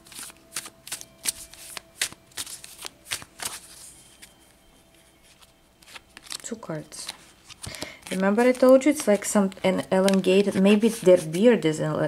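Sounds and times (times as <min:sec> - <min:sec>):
cards being shuffled: 0:00.0 - 0:04.4, 0:05.2 - 0:11.8.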